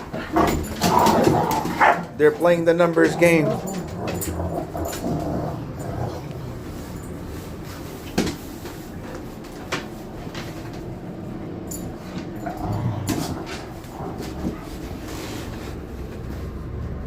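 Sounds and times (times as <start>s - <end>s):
dogs scuffling: 0.0s - 17.0s.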